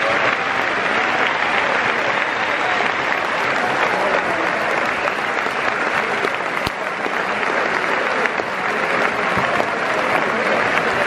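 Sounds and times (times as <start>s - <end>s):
stadium crowd applauding: 0.0s - 11.0s.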